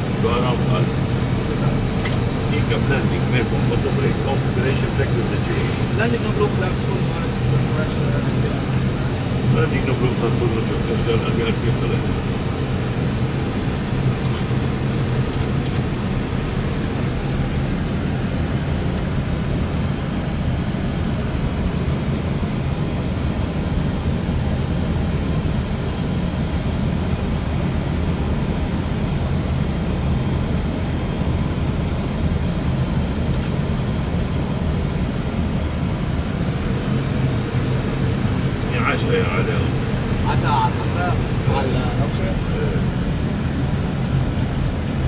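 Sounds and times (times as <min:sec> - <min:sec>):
airplane cockpit rumble and hiss: 0:00.0 - 0:45.0.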